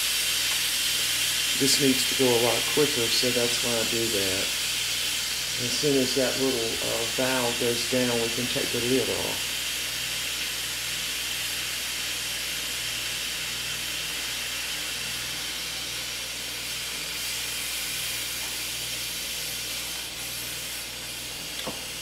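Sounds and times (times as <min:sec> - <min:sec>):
pressure cooker steam hiss: 0:00.0 - 0:22.0.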